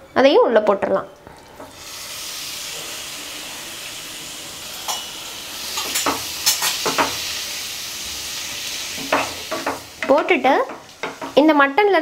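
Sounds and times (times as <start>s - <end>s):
minced meat sizzling in a pan: 1.7s - 12.0s.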